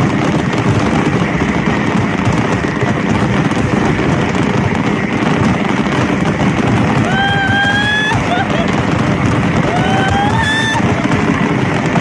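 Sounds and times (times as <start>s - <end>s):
fireworks display rumbling: 0.0s - 12.0s.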